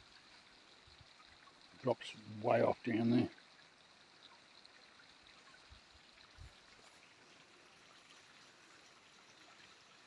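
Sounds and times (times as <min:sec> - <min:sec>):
creek flowing: 0:00.0 - 0:10.0.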